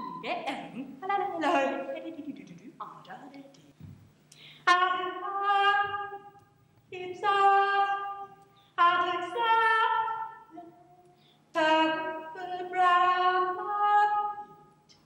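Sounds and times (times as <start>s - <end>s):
woman singing a cappella: 0.0s - 3.4s, 4.6s - 10.9s, 11.5s - 15.0s.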